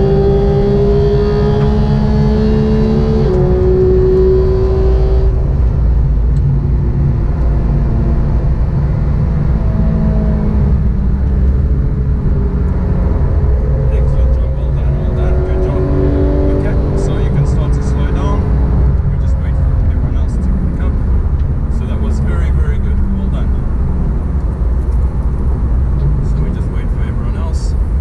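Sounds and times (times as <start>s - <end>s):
car engine accelerating hard: 0.0s - 28.0s
road noise: 0.0s - 28.0s.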